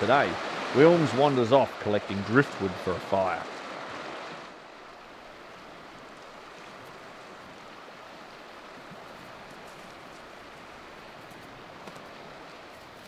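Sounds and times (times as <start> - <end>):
strong wind through forest: 0.0 - 13.0.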